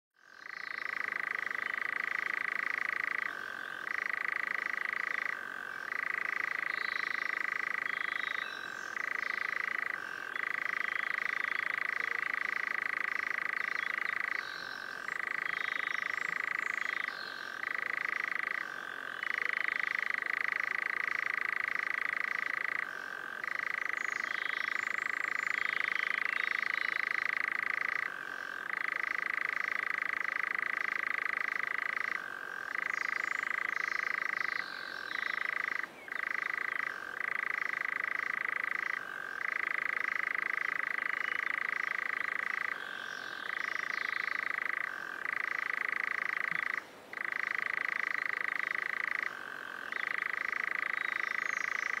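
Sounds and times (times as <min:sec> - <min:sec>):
nightjar churring trill: 0:00.2 - 0:52.0.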